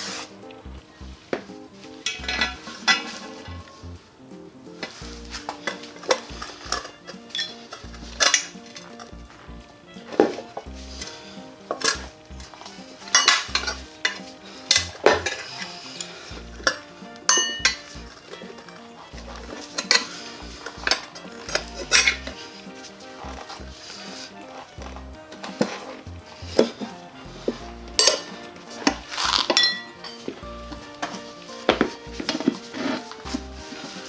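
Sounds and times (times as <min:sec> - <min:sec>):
metal tools clinking and knocking: 0:01.4 - 0:03.8, 0:04.8 - 0:09.1, 0:10.2 - 0:26.0, 0:27.6 - 0:34.0.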